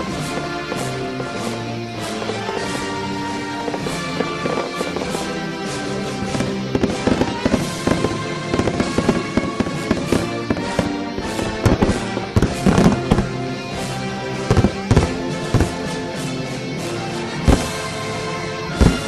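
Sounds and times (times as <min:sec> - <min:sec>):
fireworks exploding: 0:00.0 - 0:19.0
music playing: 0:00.0 - 0:19.0.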